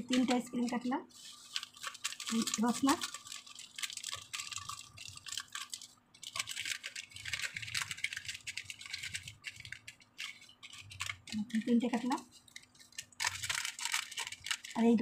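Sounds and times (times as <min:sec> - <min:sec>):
plastic sachets crinkling: 0:00.0 - 0:15.0.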